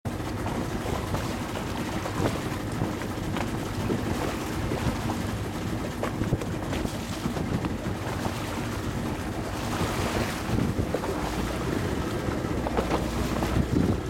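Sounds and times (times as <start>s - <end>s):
water splashing against hull: 0.1s - 14.0s
wind buffeting microphone: 0.1s - 14.0s.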